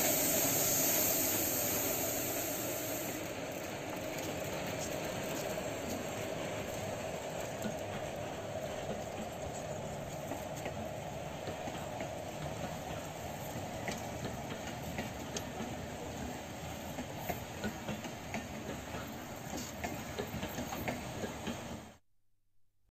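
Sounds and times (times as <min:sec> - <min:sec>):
train rolling past: 0:00.0 - 0:22.0
wheels clicking and clanking: 0:02.8 - 0:21.8.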